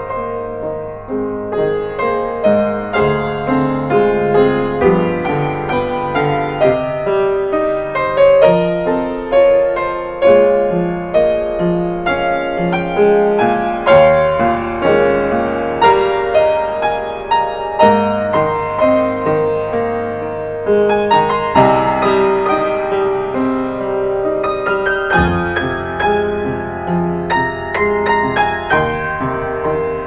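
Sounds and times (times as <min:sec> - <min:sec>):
upright piano solo piece: 0:00.0 - 0:30.0.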